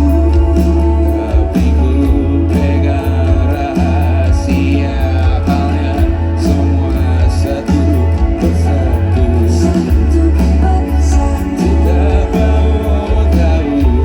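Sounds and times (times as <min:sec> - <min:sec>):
heavy bass: 0:00.0 - 0:14.0
live pop-rock band: 0:00.0 - 0:14.0
person singing: 0:00.0 - 0:14.0
steady drum beat: 0:00.0 - 0:14.0.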